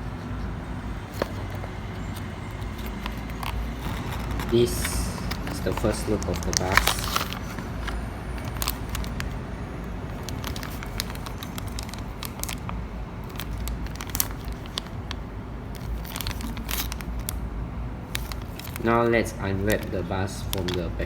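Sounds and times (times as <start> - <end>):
packaging crinkling: 1.0 - 21.0.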